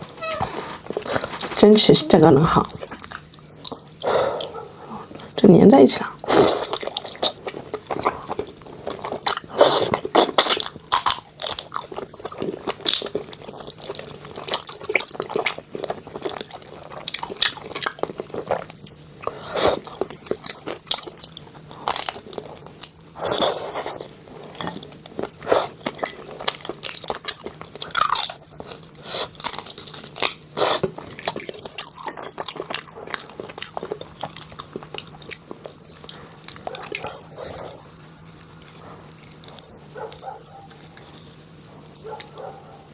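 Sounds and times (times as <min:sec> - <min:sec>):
person chewing crunchy food: 0:00.0 - 0:01.7, 0:02.5 - 0:05.4, 0:06.2 - 0:42.9.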